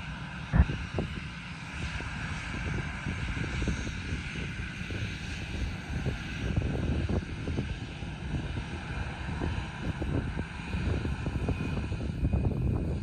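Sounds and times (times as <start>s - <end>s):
jet engines whining: 0.0s - 13.0s
wind buffeting microphone: 0.2s - 13.0s.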